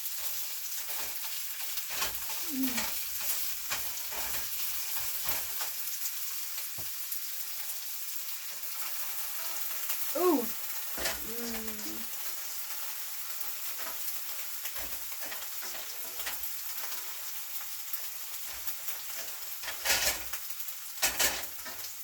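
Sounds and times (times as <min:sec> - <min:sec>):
stir fry sizzling in a pan: 0:00.0 - 0:22.0.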